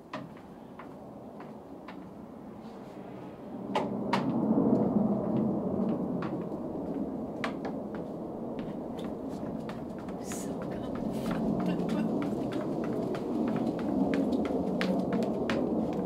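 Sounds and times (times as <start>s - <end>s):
footsteps on wooden deck: 0.0s - 2.8s, 4.2s - 16.0s.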